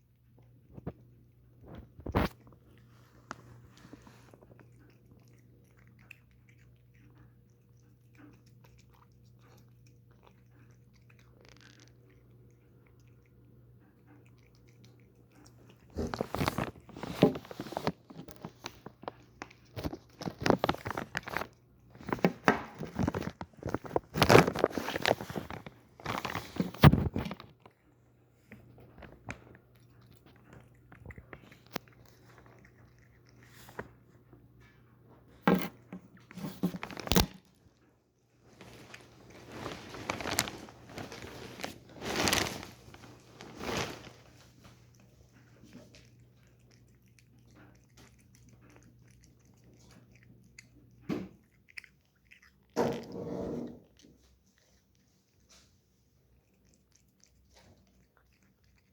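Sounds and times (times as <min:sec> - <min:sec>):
cat chewing food: 0:00.0 - 0:58.9.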